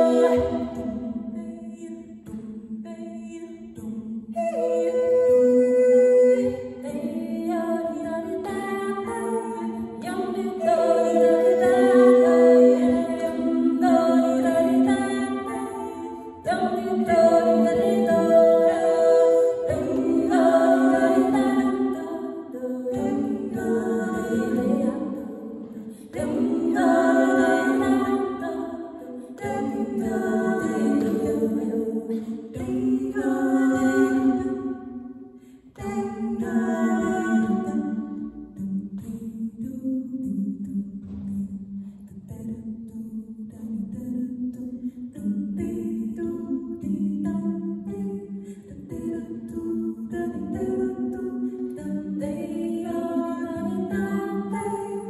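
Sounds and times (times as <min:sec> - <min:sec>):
women singing folk tune in harmony: 0:00.0 - 0:55.0.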